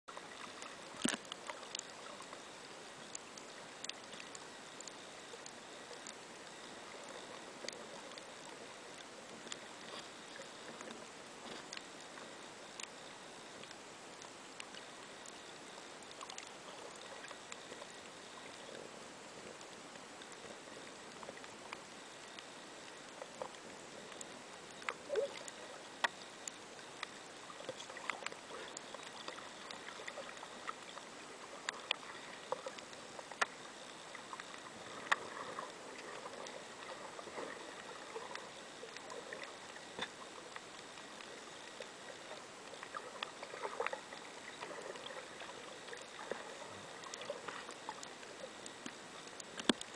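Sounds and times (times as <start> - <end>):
underwater clicks and crackles: 0.1 - 49.9.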